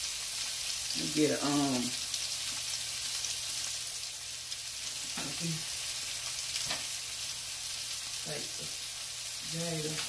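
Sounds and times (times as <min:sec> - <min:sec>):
patties sizzling on griddle: 0:00.0 - 0:10.0.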